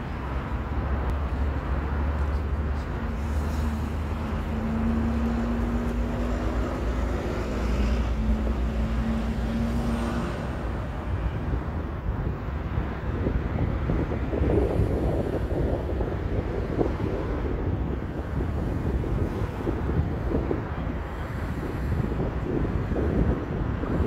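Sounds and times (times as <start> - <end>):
low rumble with noise: 0.0 - 24.0.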